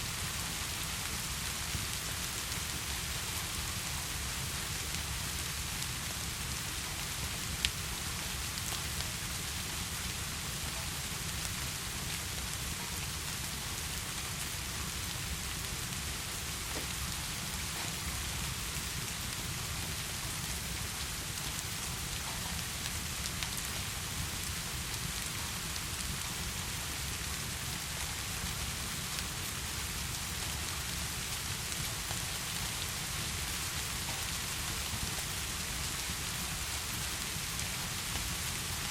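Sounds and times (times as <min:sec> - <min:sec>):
fireplace crackles: 0:00.1 - 0:38.9
heavy rain falling: 0:00.1 - 0:38.9.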